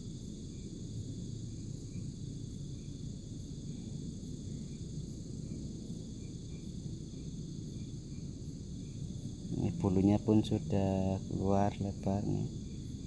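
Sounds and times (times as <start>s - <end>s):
faint insect chirps: 0.0s - 13.0s
low steady rumble: 0.0s - 13.0s
night insects trilling: 0.0s - 13.0s.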